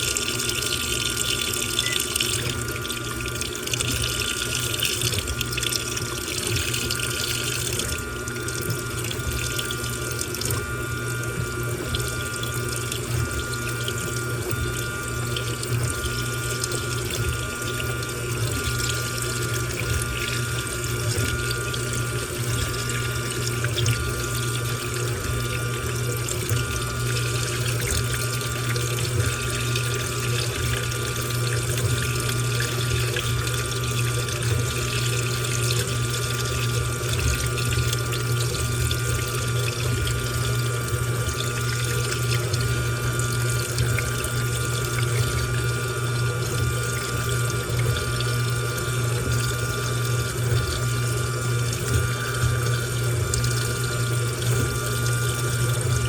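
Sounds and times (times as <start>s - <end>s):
washing machine motor hum: 0.0s - 56.0s
water sloshing in washing machine: 0.0s - 56.0s.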